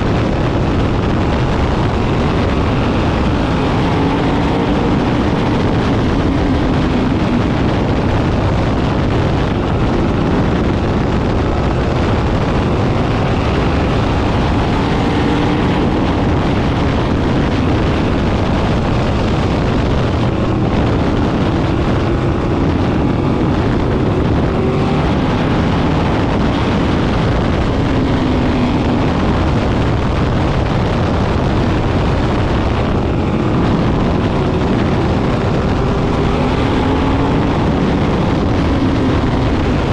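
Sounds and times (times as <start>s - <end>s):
race car engines passing: 0.0s - 39.9s.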